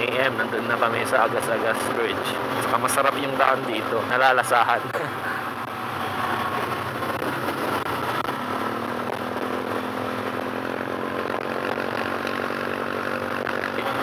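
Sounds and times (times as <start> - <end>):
scooter engine running: 0.0 - 14.0
wind and road noise: 0.0 - 14.0.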